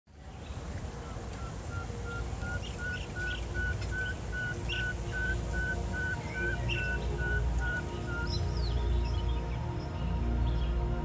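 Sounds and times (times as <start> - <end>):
bird chirps: 0.4 - 9.4.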